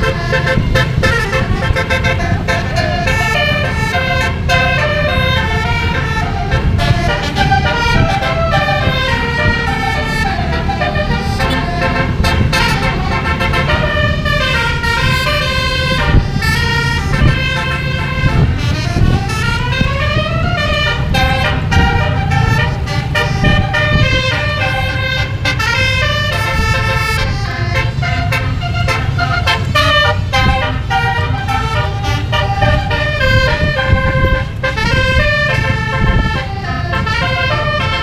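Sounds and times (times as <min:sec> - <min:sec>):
bus engine rumble: 0:00.0 - 0:38.0
bus horn playing melody: 0:00.0 - 0:38.0.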